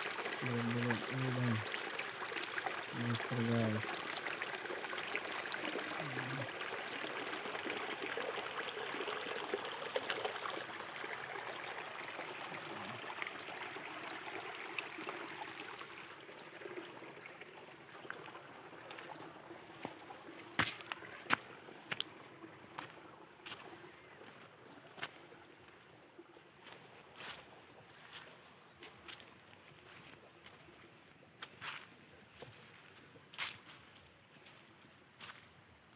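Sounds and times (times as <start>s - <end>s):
water trickling: 0.0s - 35.4s.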